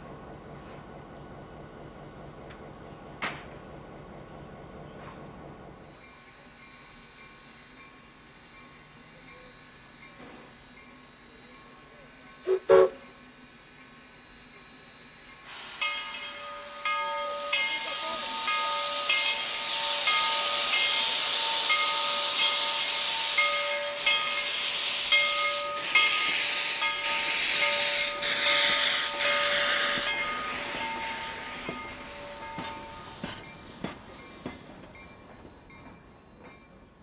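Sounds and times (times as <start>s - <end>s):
steam locomotive exhaust chuffs: 5.7s - 36.1s
steam hissing: 5.8s - 36.0s
locomotive bell ringing: 6.1s - 37.0s.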